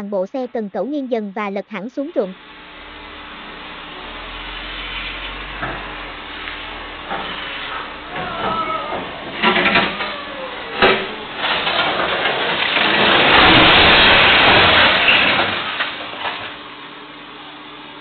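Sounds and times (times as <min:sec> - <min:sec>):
crane crashing rumble: 0:02.3 - 0:16.9.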